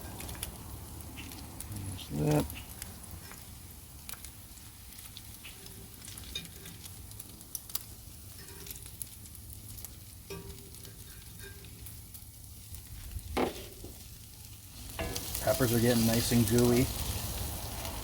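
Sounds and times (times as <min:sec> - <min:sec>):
peppers sizzling in a pan: 0:00.0 - 0:18.0.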